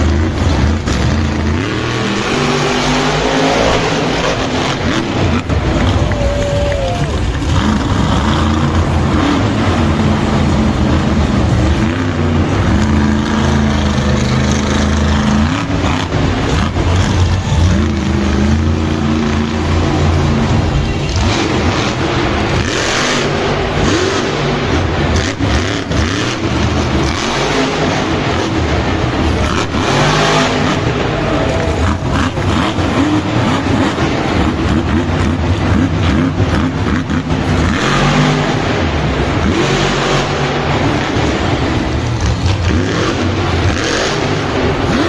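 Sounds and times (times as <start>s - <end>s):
truck engines revving: 0.0s - 45.0s.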